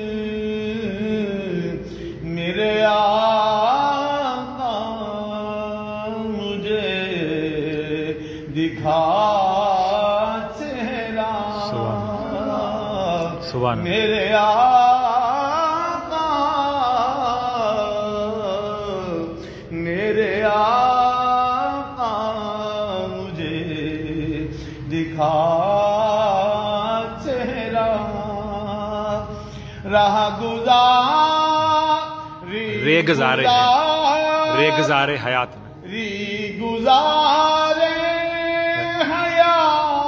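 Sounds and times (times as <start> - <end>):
man chanting melodically: 0.0 - 40.0.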